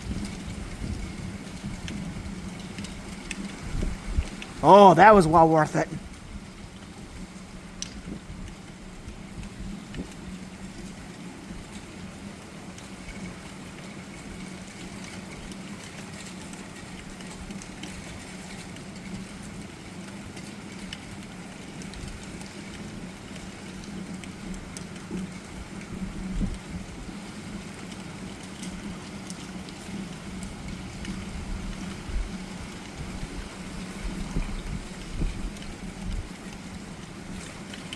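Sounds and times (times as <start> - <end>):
steady rain hissing: 0.0 - 37.9.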